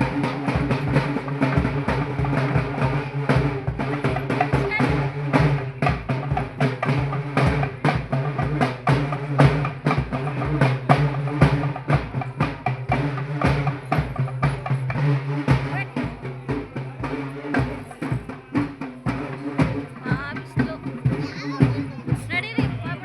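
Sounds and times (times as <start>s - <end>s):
fast dense drumming: 0.0s - 23.0s.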